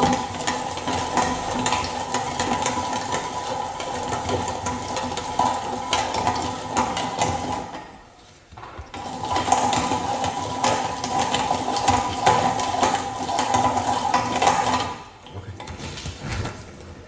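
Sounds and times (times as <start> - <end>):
manual meat grinder rattling: 0.0 - 7.9, 8.8 - 15.8.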